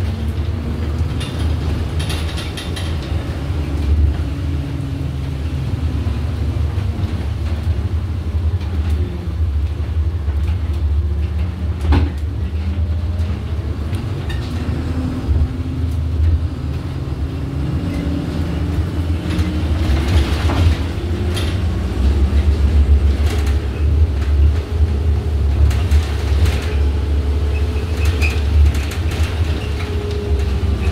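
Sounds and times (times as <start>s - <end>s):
bus engine and road rumble: 0.0s - 30.9s
knocks and rattles of bus fittings: 0.0s - 30.9s.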